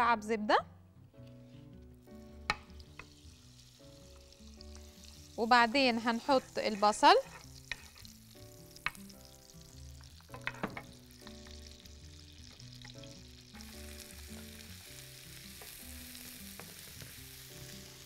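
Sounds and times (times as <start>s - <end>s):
butter and oil sizzling in a pan: 2.0s - 18.0s.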